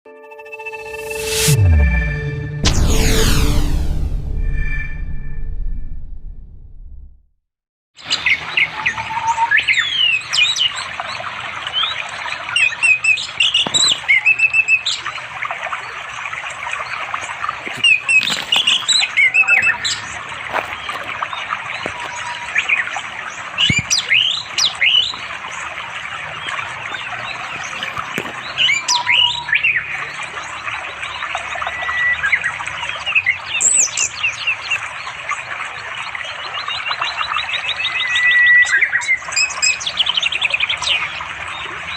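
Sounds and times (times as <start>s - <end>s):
stream flowing: 8.0s - 41.9s.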